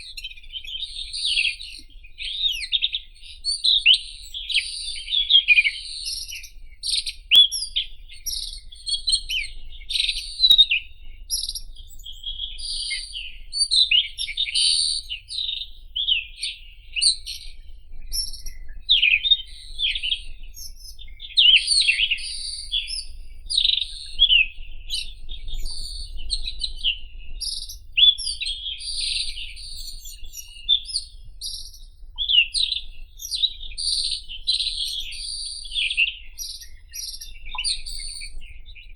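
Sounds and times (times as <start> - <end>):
robin singing: 0.0 - 38.9.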